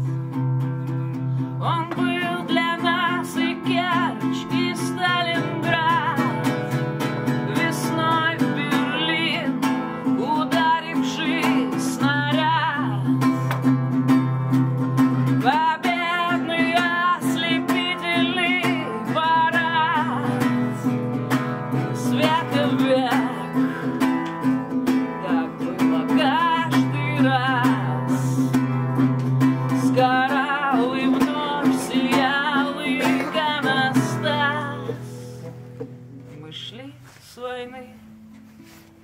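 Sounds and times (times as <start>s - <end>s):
acoustic guitar strumming chords: 0.0s - 39.0s
woman singing: 1.4s - 13.6s, 15.1s - 35.5s, 36.3s - 38.1s.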